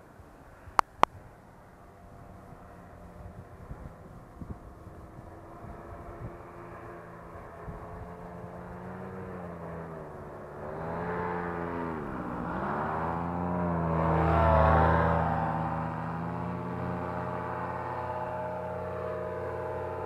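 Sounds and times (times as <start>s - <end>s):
paramotor engine running: 2.2s - 20.0s.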